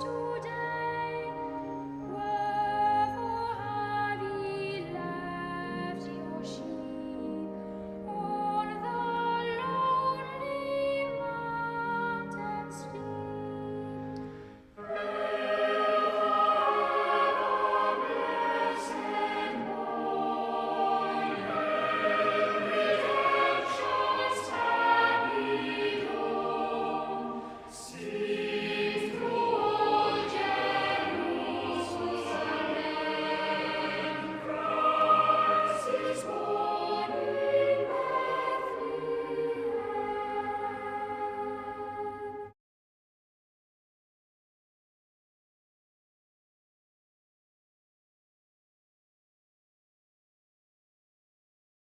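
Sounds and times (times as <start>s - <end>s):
choir singing sustained chords: 0.0s - 42.5s.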